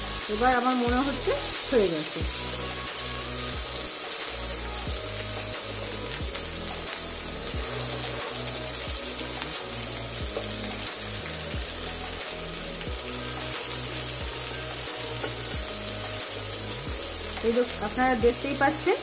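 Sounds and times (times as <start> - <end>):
background music: 0.0 - 19.0
patties sizzling in oil: 0.0 - 19.0.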